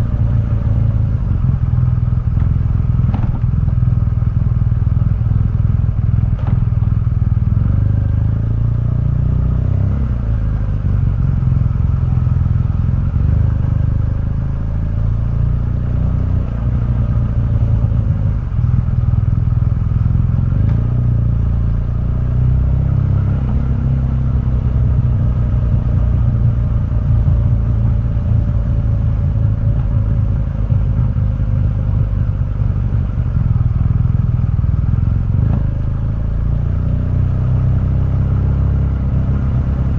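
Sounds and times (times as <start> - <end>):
motorcycle engine revving on road: 0.0 - 39.9.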